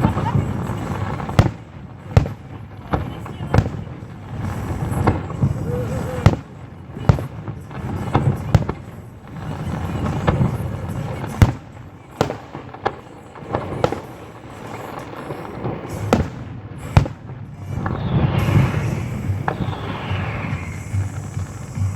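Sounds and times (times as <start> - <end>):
fireworks bursting with sharp bangs: 0.0 - 21.9
low rumble from fireworks: 0.0 - 21.9.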